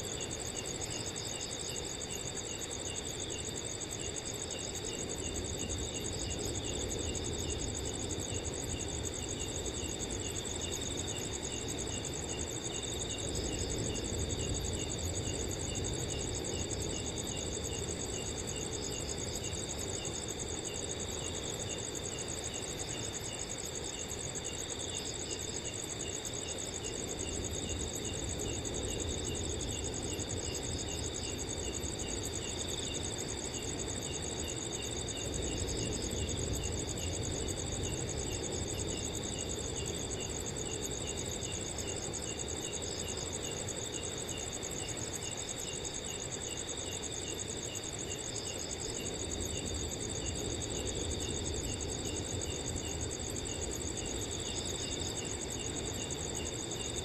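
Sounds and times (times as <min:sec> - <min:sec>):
cricket chirping: 0:00.0 - 0:57.0
crickets trilling: 0:00.0 - 0:57.0.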